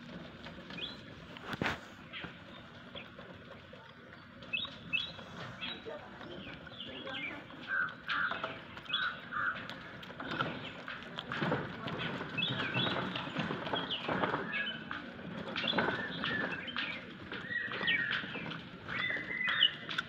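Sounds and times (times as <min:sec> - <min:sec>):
rustling: 0:00.0 - 0:20.0
small birds chirping: 0:00.5 - 0:20.0.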